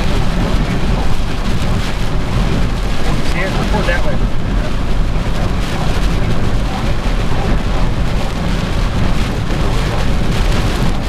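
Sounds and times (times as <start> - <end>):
deep low rumble: 0.0 - 11.0
wind and rain rushing: 0.0 - 11.0.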